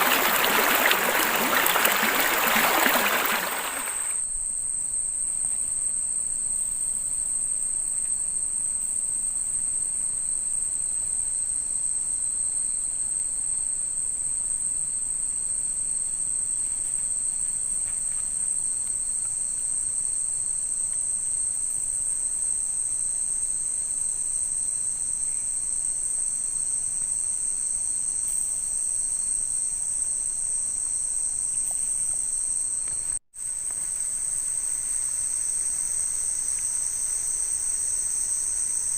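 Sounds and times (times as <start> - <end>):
night insects chorus: 0.0 - 38.9.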